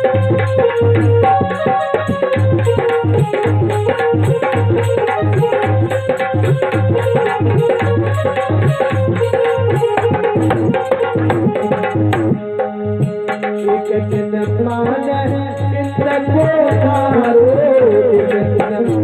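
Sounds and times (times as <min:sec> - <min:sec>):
hand drums playing fast rhythm: 0:00.0 - 0:19.0.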